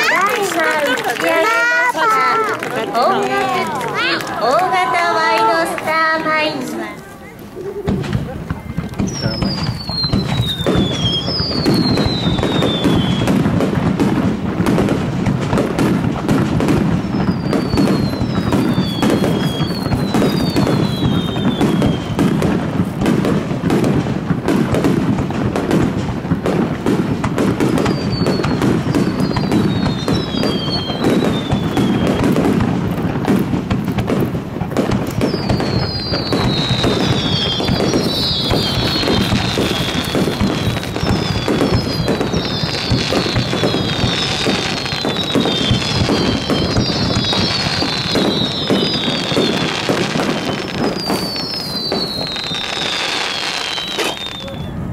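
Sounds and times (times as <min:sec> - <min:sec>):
fireworks bursting: 0:00.0 - 0:54.9
fireworks crackling: 0:00.0 - 0:54.9
falling firework whistles: 0:07.8 - 0:54.9.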